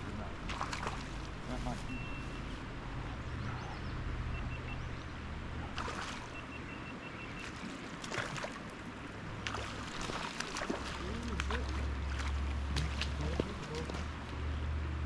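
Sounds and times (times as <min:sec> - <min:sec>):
creek water rushing: 0:00.0 - 0:03.4, 0:05.1 - 0:06.5, 0:07.3 - 0:15.0.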